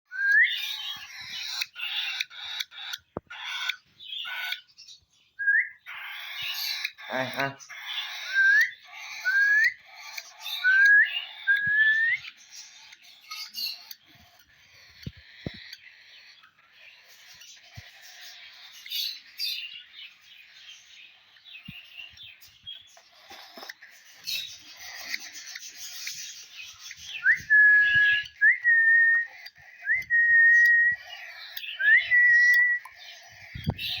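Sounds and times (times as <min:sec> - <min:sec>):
lovebirds chirping and chattering: 0:00.1 - 0:34.0.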